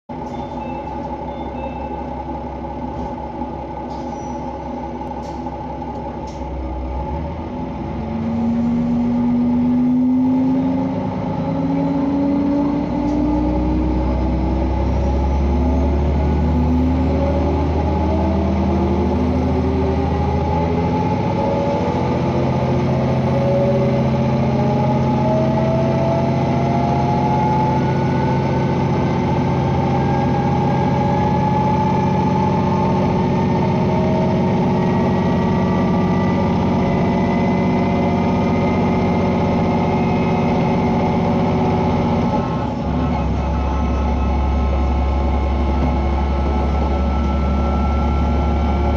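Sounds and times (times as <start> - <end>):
diesel railcar engine accelerating: 0.1 - 48.9.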